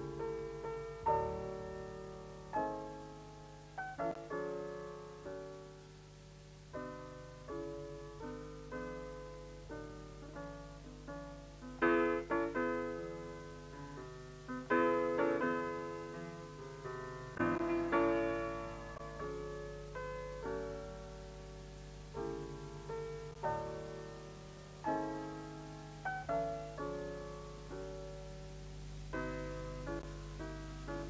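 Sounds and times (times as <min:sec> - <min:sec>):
slow piano chords: 0:00.0 - 0:31.0.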